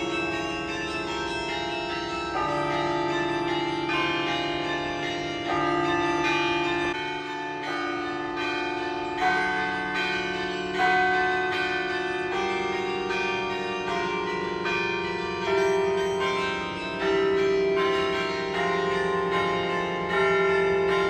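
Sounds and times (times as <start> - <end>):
carillon bells playing melody: 0.0 - 21.0.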